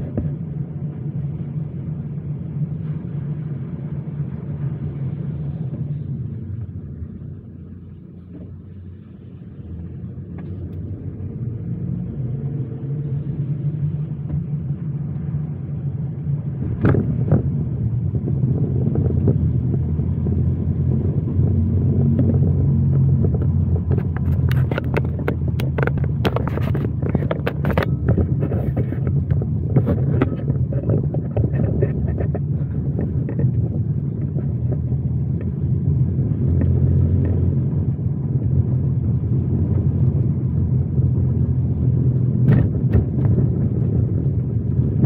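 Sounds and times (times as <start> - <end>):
car engine and tyres rumbling: 0.0 - 45.0.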